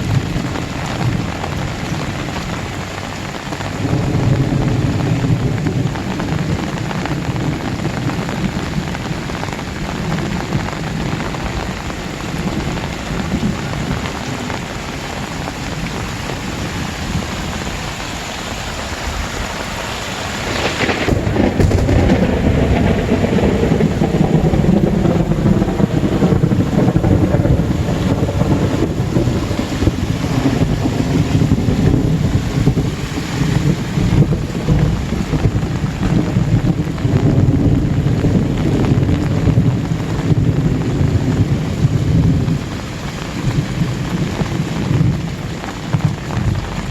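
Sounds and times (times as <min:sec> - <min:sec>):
deep rumble: 0:00.0 - 0:46.9
heavy rain pouring: 0:00.0 - 0:46.9.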